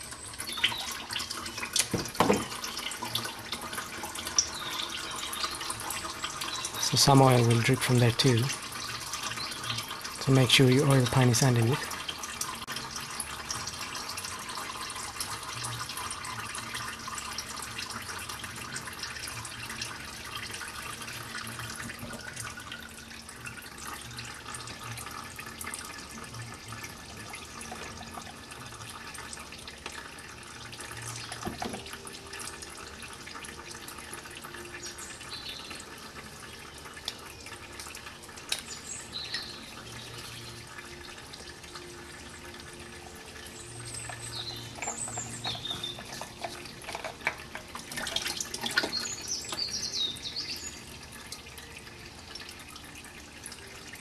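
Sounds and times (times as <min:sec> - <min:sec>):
oil pouring trickle: 0:00.0 - 0:54.0.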